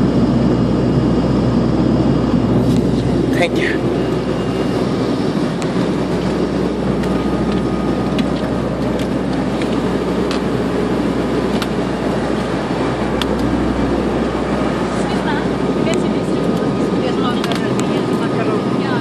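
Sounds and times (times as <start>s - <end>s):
airliner cabin engine drone: 0.0s - 19.0s
low hum: 0.0s - 19.0s.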